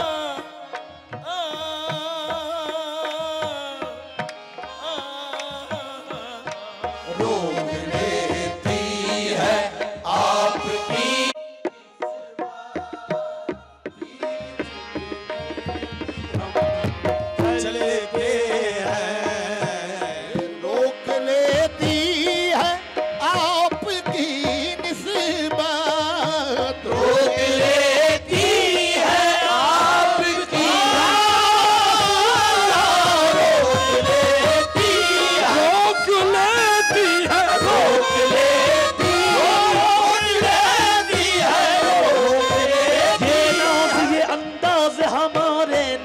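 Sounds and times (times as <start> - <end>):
harmonium: 0.0 - 46.0
tabla: 0.0 - 46.0
voices singing ornamented notes: 0.0 - 46.0.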